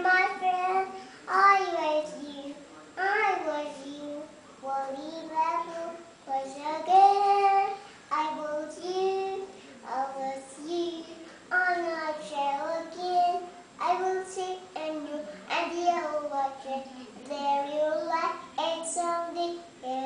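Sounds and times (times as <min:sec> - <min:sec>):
toddler singing: 0:00.0 - 0:20.0.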